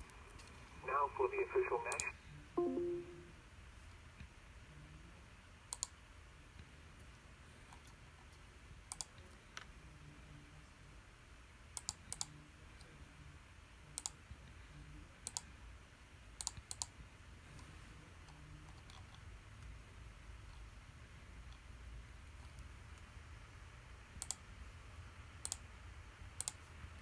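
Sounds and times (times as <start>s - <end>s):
faint low background noise: 0.0s - 27.0s.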